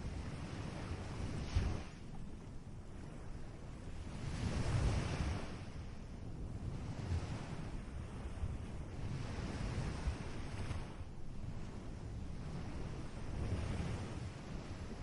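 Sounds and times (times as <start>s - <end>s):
ocean waves washing onto shore: 0.0s - 15.0s.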